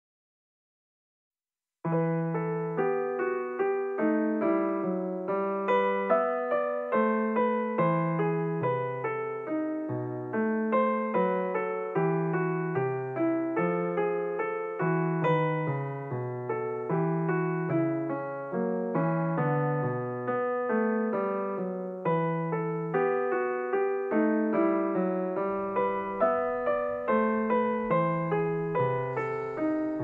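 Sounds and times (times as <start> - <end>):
piano music: 1.9 - 30.0.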